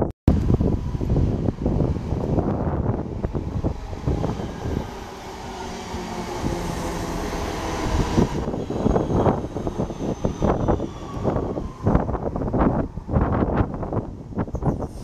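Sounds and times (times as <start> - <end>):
wind buffeting microphone: 0.0 - 15.0
train wheels rumbling on rail: 0.3 - 15.0.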